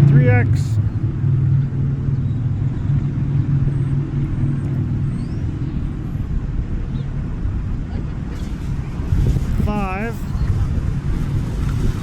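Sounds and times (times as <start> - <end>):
constant low hum: 0.0 - 12.0
traffic rumble: 0.0 - 12.0.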